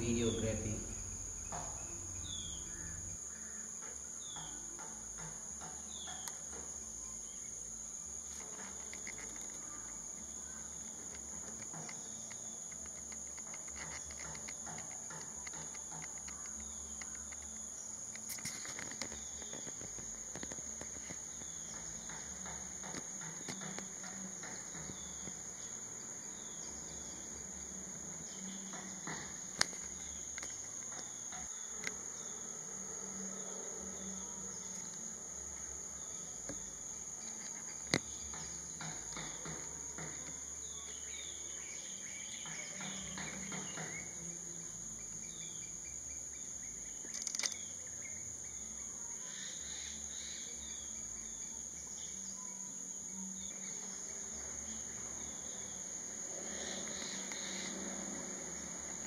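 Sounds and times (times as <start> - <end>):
small birds chirping: 0.0 - 32.5, 34.0 - 57.8
insects droning: 0.0 - 59.0.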